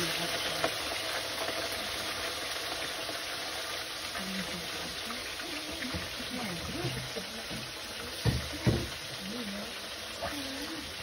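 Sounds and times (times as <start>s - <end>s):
fish frying sizzle: 0.0s - 11.0s.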